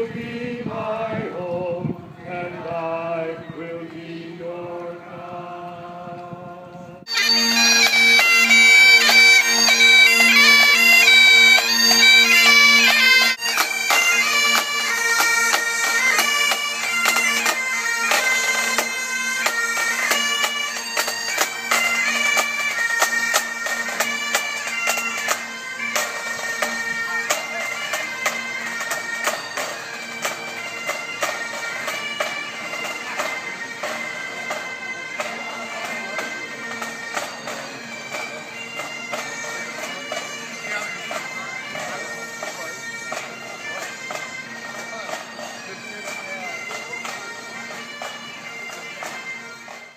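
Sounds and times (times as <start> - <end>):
bagpipe band playing: 7.0 - 49.9.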